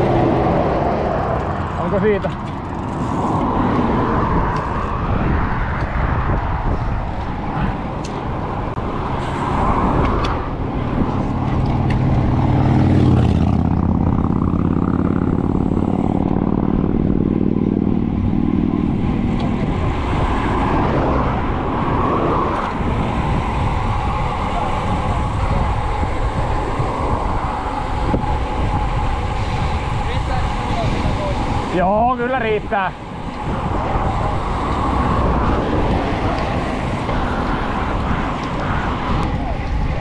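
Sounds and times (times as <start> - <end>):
motor vehicle passing: 0.0 - 40.0
wind and road noise: 0.0 - 40.0.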